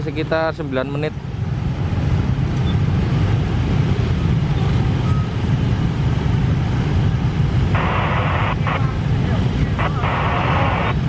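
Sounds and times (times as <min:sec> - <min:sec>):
motorbike and scooter engines: 0:00.0 - 0:11.0.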